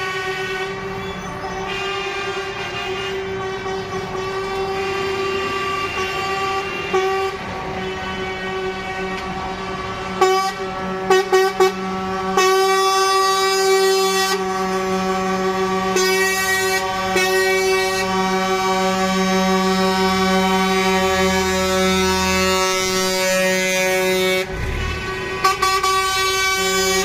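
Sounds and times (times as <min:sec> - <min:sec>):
truck air horns: 0:00.0 - 0:27.0.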